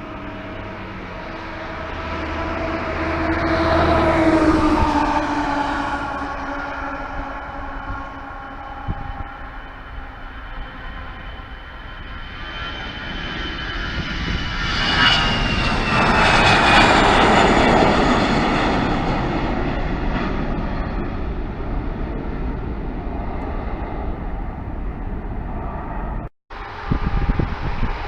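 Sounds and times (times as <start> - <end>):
airliner engine whine passing: 0.0 - 28.0.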